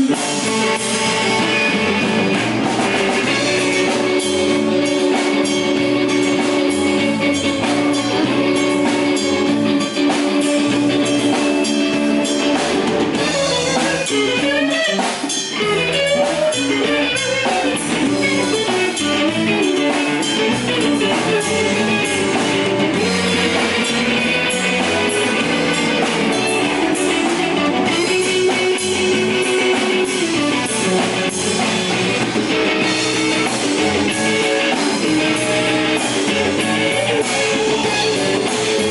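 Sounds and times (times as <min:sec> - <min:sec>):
drum kit: 0:00.0 - 0:38.9
electric guitar solo: 0:00.0 - 0:38.9.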